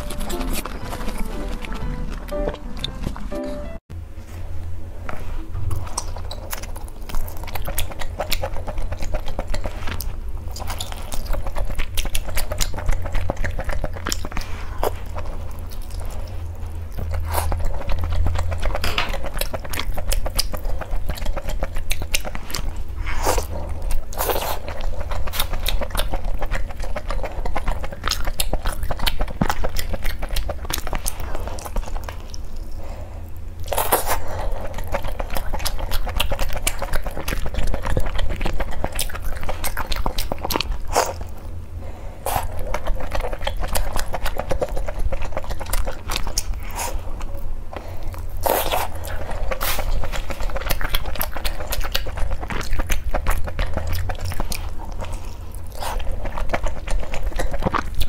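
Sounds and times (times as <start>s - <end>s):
crunching and chewing fried food: 0.0s - 3.3s, 5.5s - 58.0s.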